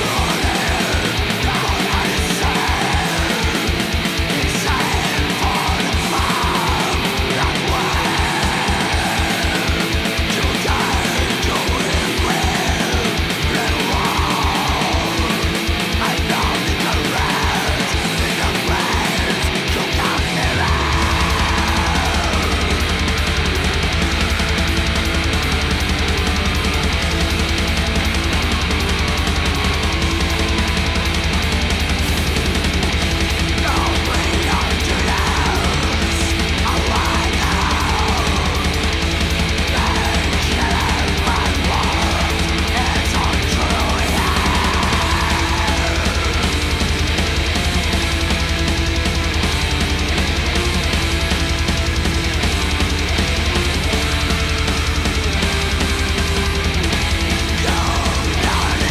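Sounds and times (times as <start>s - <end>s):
heavy metal music: 0.0s - 58.9s.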